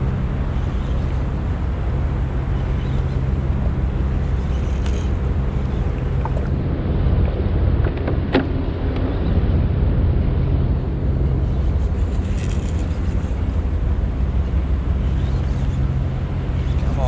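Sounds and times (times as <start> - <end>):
steady low hum: 0.0 - 17.0
wind buffeting microphone: 0.0 - 17.0.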